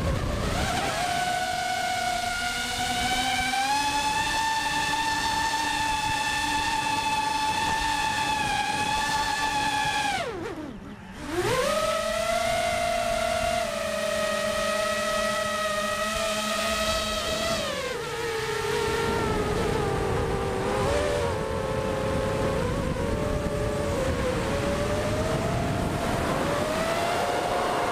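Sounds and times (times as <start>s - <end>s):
drone motors whining: 0.0s - 27.9s.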